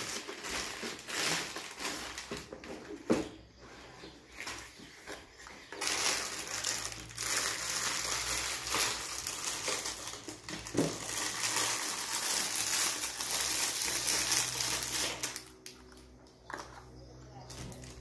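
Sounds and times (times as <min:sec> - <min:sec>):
plastic bag crinkling: 0:00.0 - 0:03.0, 0:04.4 - 0:16.1.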